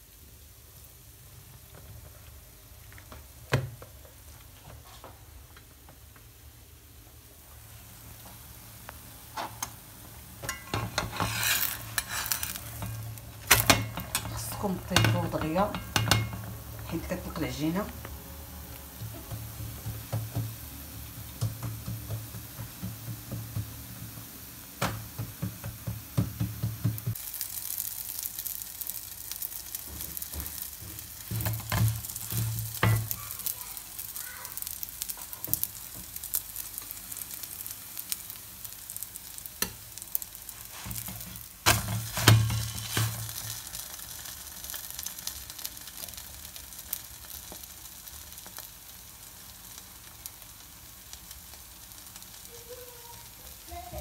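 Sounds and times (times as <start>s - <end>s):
flatbread sizzling in a pan: 0.0s - 54.0s.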